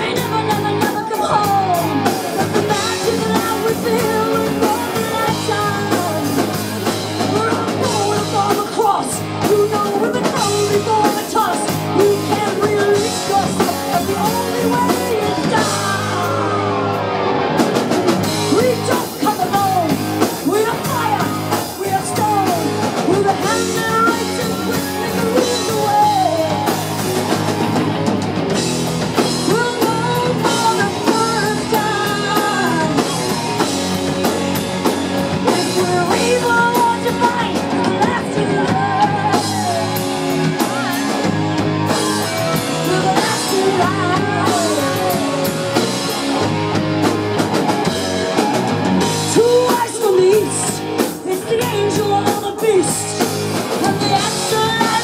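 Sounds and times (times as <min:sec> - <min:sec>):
woman singing: 0:00.0 - 0:06.6, 0:07.2 - 0:17.0, 0:18.5 - 0:26.9, 0:29.2 - 0:33.7, 0:35.4 - 0:41.2, 0:41.9 - 0:45.7, 0:49.2 - 0:55.0
bass guitar: 0:00.0 - 0:55.0
distorted electric guitar: 0:00.0 - 0:55.0
drum kit: 0:00.0 - 0:55.0.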